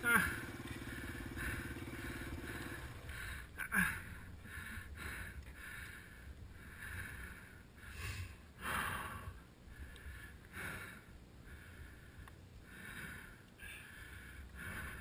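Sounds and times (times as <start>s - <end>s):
low steady rumble: 0.0s - 15.0s
person panting hard: 0.1s - 15.0s.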